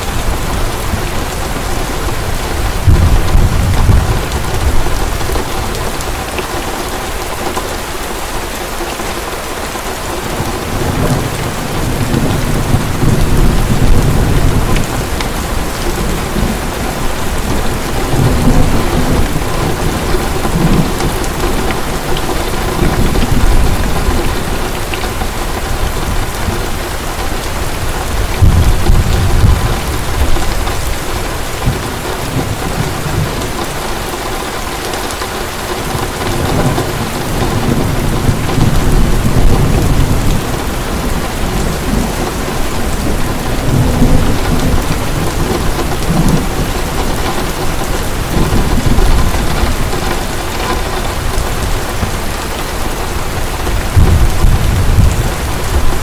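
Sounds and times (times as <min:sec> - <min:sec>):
thunder rumbling: 0:00.0 - 0:08.2, 0:10.2 - 0:56.0
heavy rain pouring: 0:00.0 - 0:56.0.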